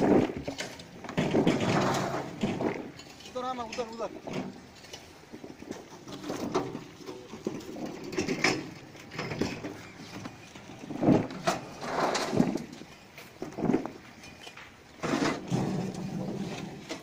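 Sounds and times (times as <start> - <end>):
rhizomes clattering into metal drum: 0.0 - 17.0.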